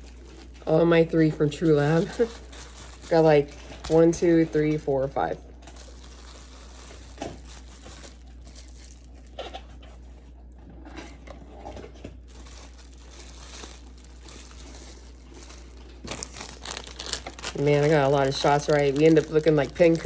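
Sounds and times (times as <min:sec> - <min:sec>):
plastic bags crinkling: 0:00.0 - 0:10.4, 0:11.8 - 0:20.0.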